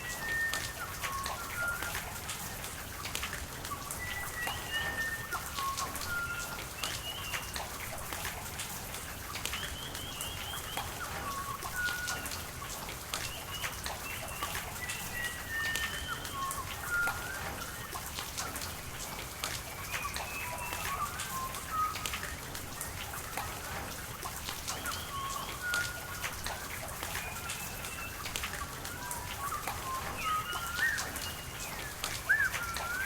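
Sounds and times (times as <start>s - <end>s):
bird whistled call: 0.0s - 2.2s, 3.7s - 7.8s, 9.6s - 12.5s, 13.2s - 18.6s, 19.2s - 23.6s, 24.7s - 33.0s
rain drops pattering: 0.0s - 33.0s.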